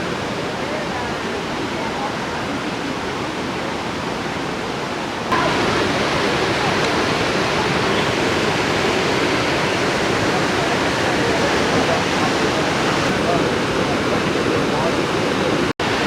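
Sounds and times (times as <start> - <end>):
river water rushing over rocks: 0.0 - 16.0.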